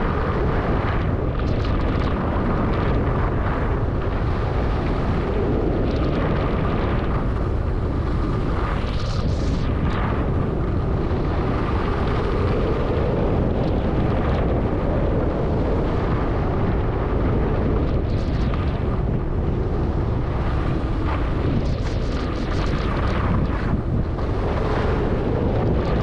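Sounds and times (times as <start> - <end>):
wind noise on microphone: 0.0 - 26.0.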